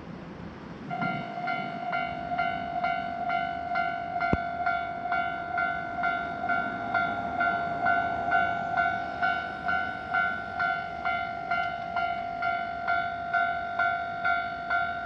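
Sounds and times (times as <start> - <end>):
level-crossing warning bell ringing: 0.9 - 15.0.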